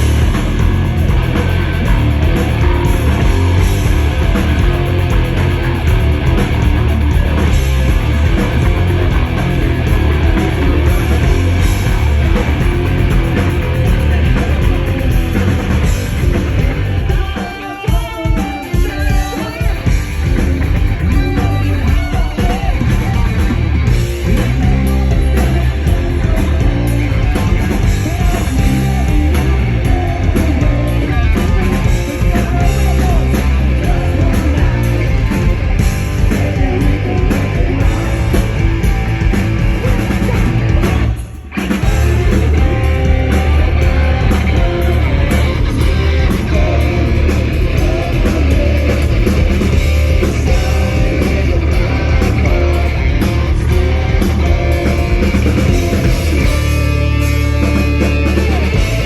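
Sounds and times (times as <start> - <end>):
hard rock band playing: 0.0 - 59.0
lone electric guitar line: 0.0 - 59.0.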